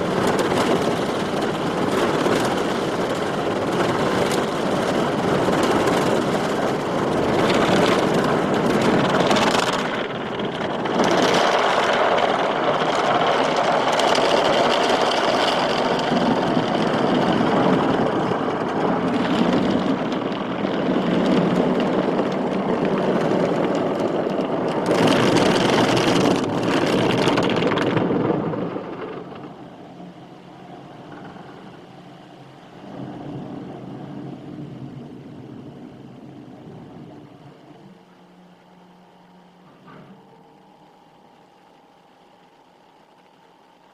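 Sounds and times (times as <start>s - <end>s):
car wash machinery running: 0.0s - 43.9s.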